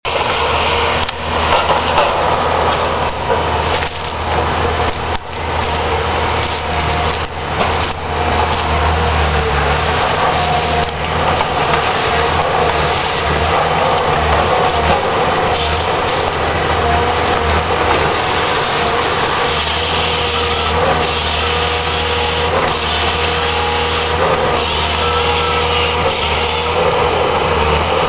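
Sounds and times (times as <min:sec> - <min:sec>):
wood-cutting machine cutting wood: 0:00.0 - 0:28.0.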